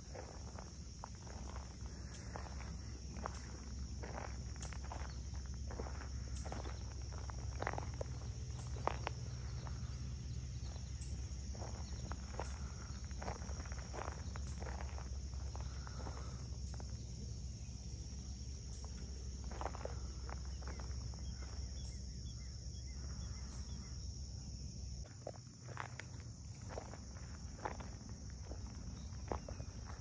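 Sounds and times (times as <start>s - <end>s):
night insect chorus: 0.0s - 30.0s.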